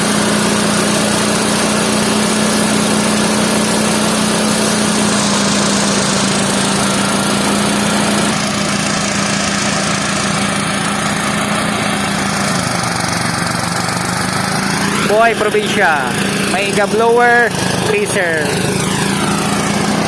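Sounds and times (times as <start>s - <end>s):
threshing machine engine running: 0.0s - 20.0s.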